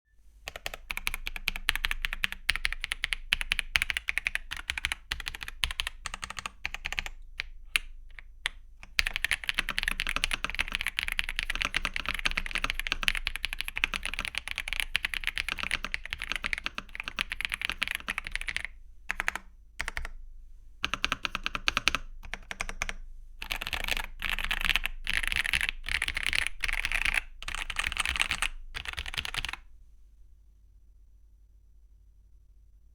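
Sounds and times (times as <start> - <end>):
typing on mechanical keyboard: 0.5 - 20.2, 20.8 - 29.6.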